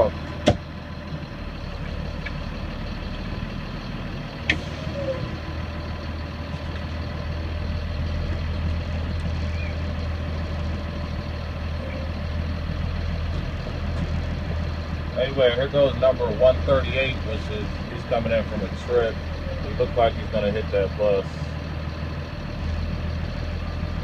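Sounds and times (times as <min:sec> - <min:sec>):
bus diesel engine idling: 0:00.0 - 0:24.0.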